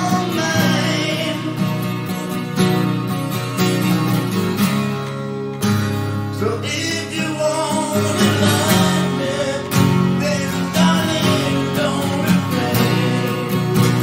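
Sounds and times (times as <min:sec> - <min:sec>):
acoustic guitar rock ballad: 0:00.0 - 0:14.0.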